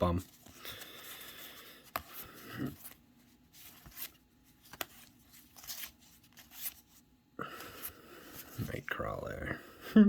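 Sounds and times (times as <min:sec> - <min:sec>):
trading cards rustling: 0:00.0 - 0:09.2.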